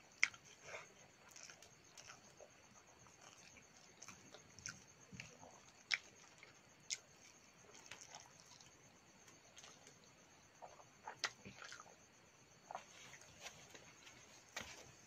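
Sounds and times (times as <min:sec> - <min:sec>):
person chewing food: 0:00.0 - 0:12.0, 0:12.6 - 0:15.0.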